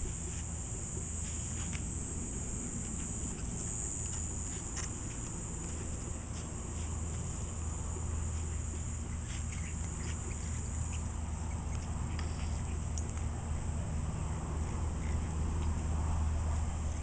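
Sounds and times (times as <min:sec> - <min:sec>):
puppies rustling in leaf litter: 0:00.0 - 0:17.0
steady low hum: 0:00.0 - 0:17.0.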